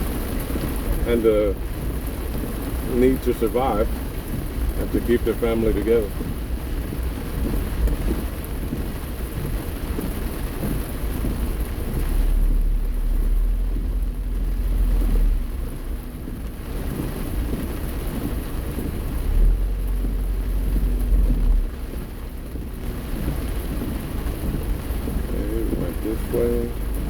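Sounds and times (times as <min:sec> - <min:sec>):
heavy rain on a car: 0:00.0 - 0:27.0
tyre and road noise: 0:00.0 - 0:27.0
deep low rumble: 0:03.8 - 0:27.0.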